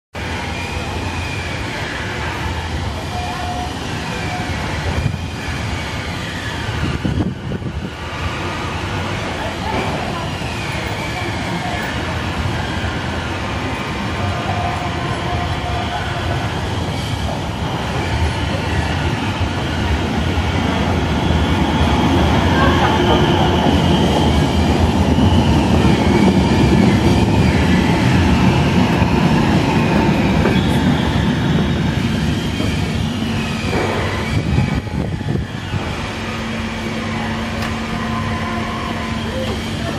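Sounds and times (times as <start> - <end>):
low rumble of trams: 0.1 - 39.9
high squealing gliding down: 0.2 - 39.9.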